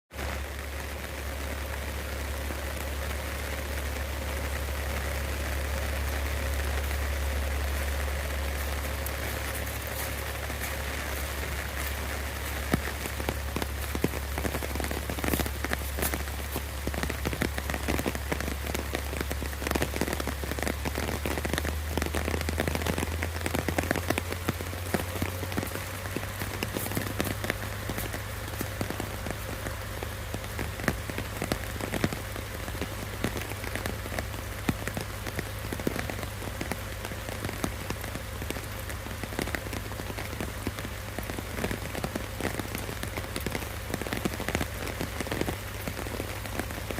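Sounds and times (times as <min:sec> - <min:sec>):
rain pattering: 0:00.1 - 0:46.9
steady low hum: 0:00.3 - 0:46.9.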